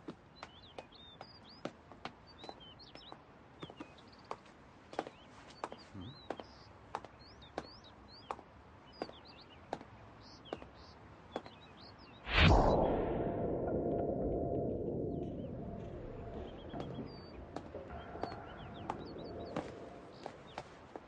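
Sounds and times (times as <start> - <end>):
small birds chirping: 0.0 - 12.2, 15.2 - 21.0.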